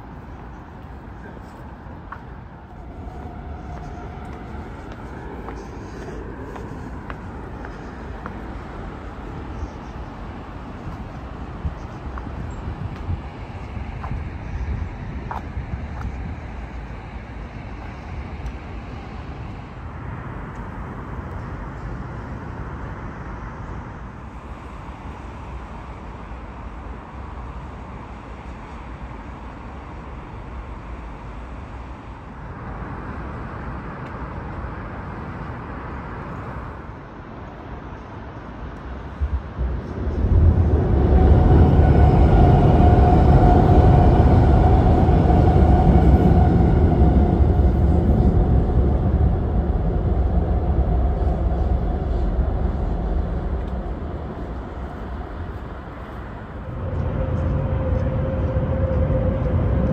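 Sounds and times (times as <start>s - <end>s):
city traffic rumble: 0.0s - 59.9s
train passing with rolling rumble: 0.0s - 59.9s
wind: 0.0s - 59.9s.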